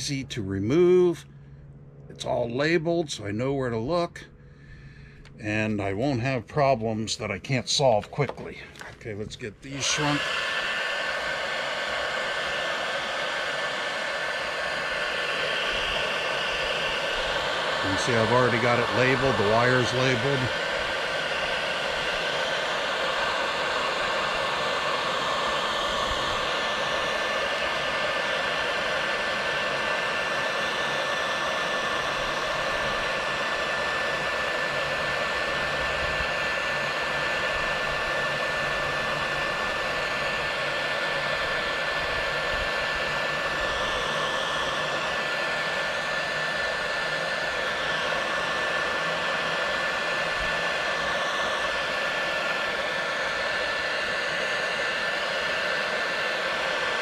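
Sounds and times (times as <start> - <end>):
heat gun blowing air: 7.8 - 57.0.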